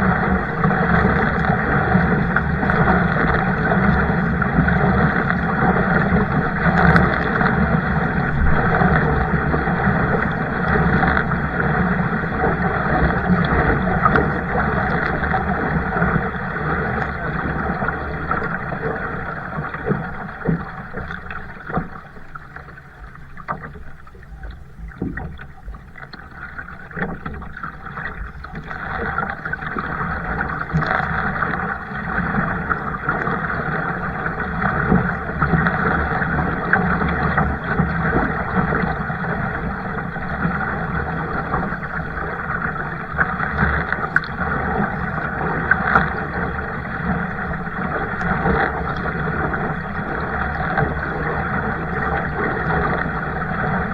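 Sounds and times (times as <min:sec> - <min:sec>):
water splashing around paddle: 0:00.0 - 0:53.9.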